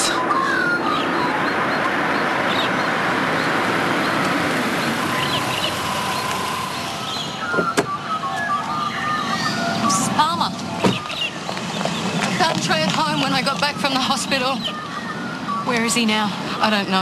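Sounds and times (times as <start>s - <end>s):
birds chirping: 0.0s - 17.0s
car driving and stopping: 0.0s - 17.0s.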